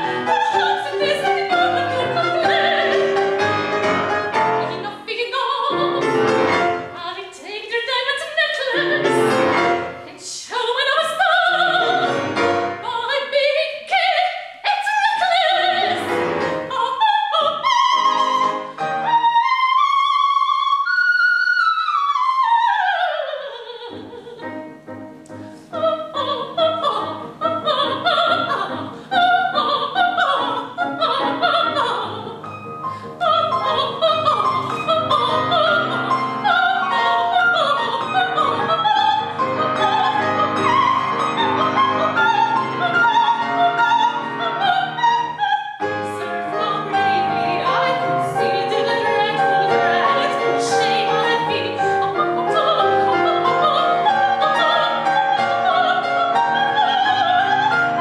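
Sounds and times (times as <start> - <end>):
piano accompaniment: 0.0 - 14.0, 14.9 - 58.0
operatic soprano singing: 0.0 - 24.7, 25.6 - 58.0.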